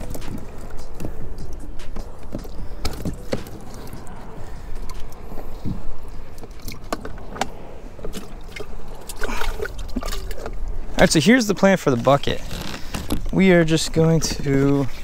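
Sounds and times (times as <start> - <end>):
low rumble: 0.0 - 13.4.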